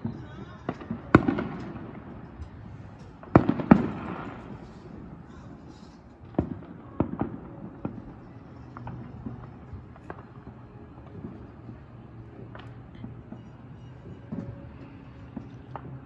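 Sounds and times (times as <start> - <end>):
distant fireworks bangs: 0.0 - 16.0.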